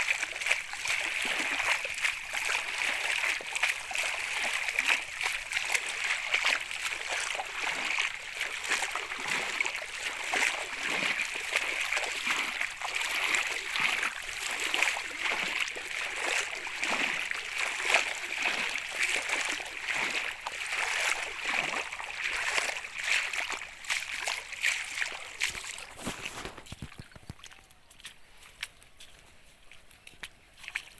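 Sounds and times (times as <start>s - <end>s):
feet wading through water: 0.0s - 30.9s.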